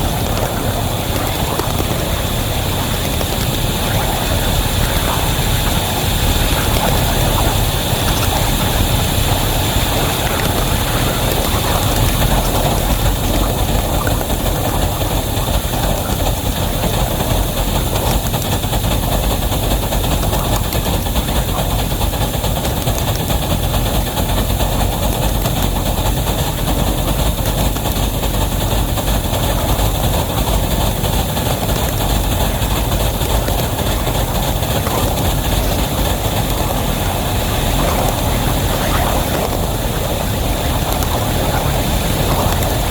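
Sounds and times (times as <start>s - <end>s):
locomotive engine: 0.0s - 42.9s
train cars rumbling on rails: 0.0s - 42.9s.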